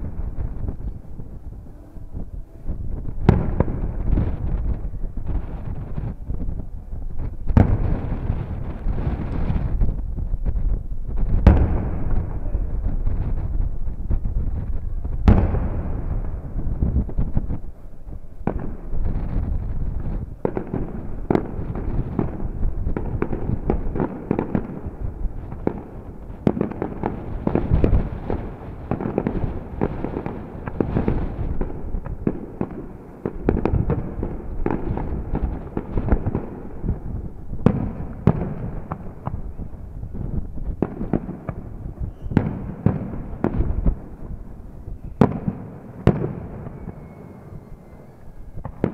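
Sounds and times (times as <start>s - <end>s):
fireworks bangs: 0.0s - 48.9s
fireworks bursting and crackling: 0.0s - 48.9s.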